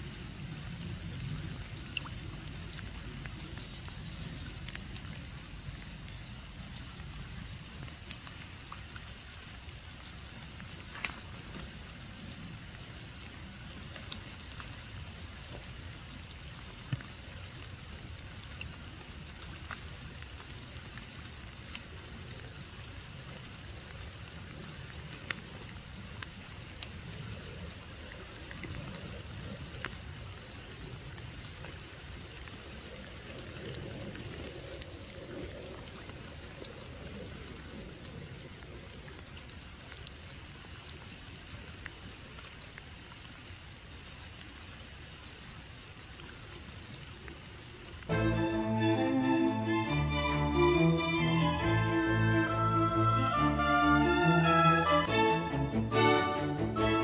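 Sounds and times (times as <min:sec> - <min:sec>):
raindrops ticking: 0:00.0 - 0:57.0.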